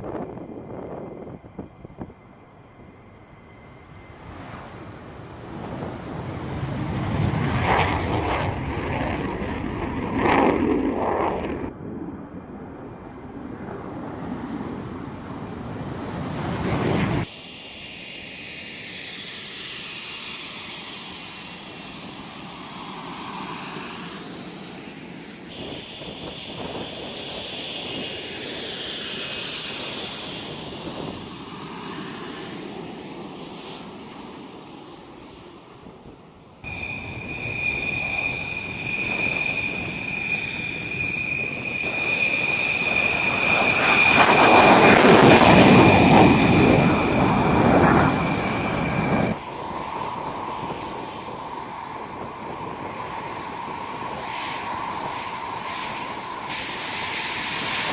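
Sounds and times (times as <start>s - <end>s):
jet engines whining: 0.0s - 57.9s.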